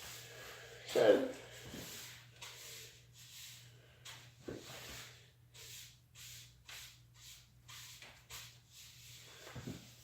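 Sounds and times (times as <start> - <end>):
soft hissing strokes: 0.0 - 10.0.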